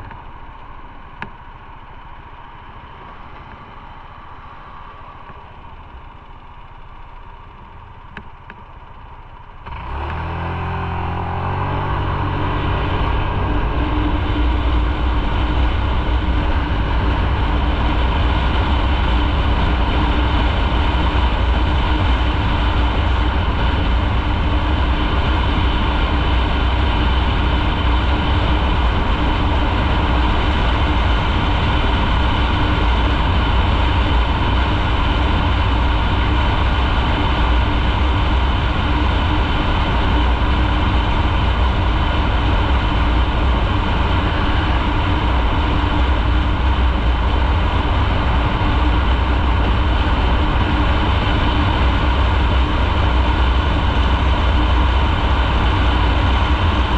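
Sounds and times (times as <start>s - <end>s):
motorcycle engine hum: 0.0s - 56.9s
wind and road noise: 0.0s - 56.9s.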